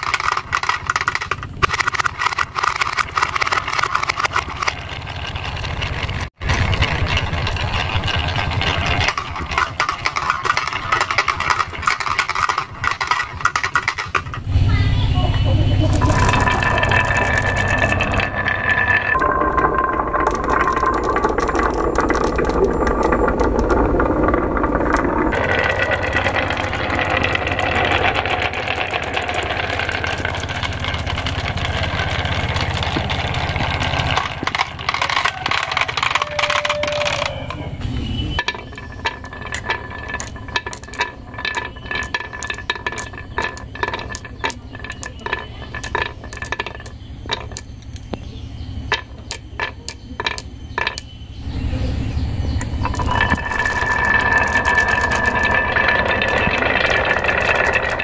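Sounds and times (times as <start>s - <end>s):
glass marbles clicking: 0.0s - 14.6s, 15.8s - 58.0s
balls rolling down wooden tracks: 0.0s - 58.0s.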